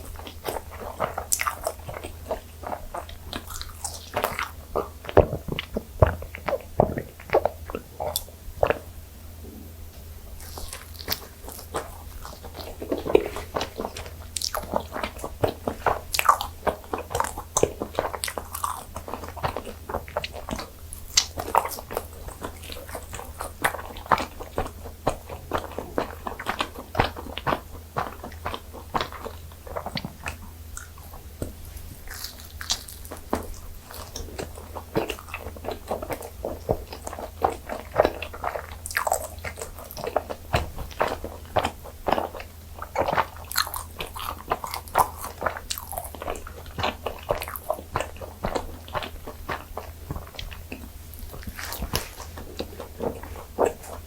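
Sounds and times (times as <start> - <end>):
chewing with mouth clicks and crunches: 0.0 - 54.0.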